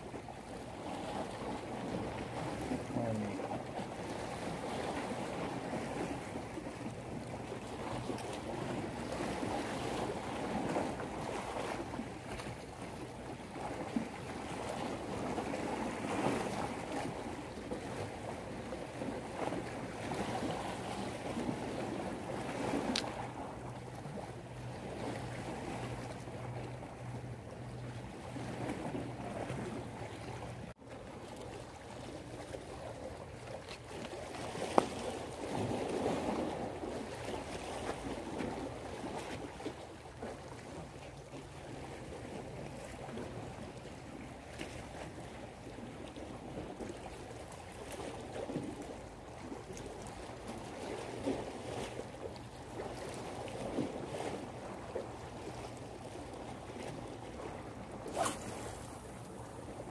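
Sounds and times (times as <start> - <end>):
sea waves against rocks: 0.0 - 59.9.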